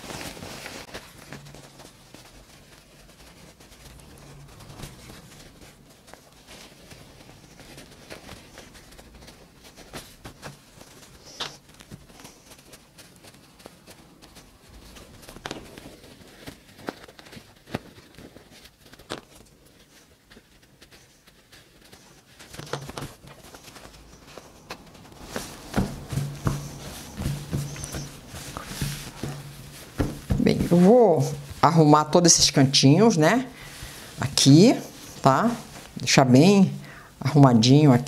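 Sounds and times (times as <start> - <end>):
fabric rustling: 0.0 - 38.0.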